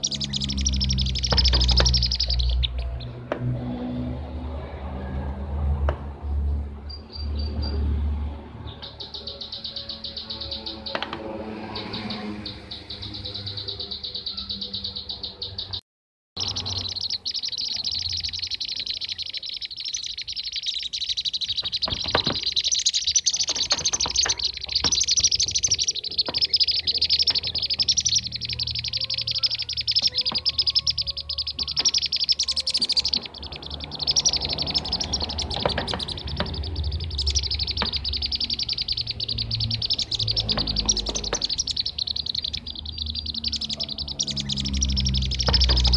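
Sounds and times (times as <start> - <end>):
bee-eaters chirping and trilling: 0.0 - 3.2, 8.6 - 15.8, 16.4 - 45.9.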